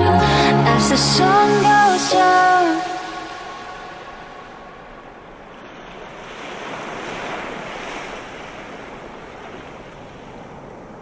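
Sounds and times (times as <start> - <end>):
ocean surf washing in: 0.0 - 11.0.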